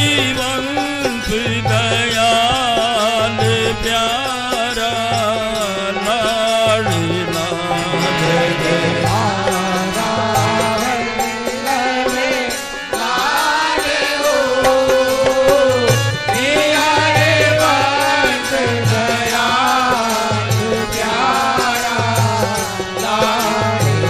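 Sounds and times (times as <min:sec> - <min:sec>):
wavering melodic chant: 0:00.0 - 0:24.0.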